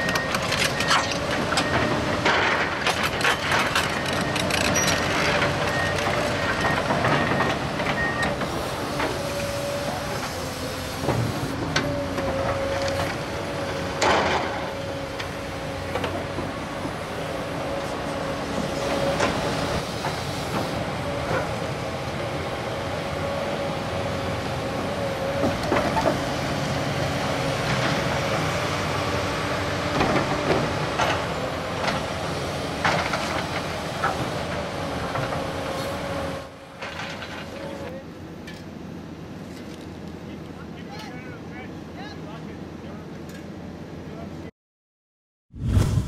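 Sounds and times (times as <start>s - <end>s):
excavator engine hum: 0.0s - 40.2s.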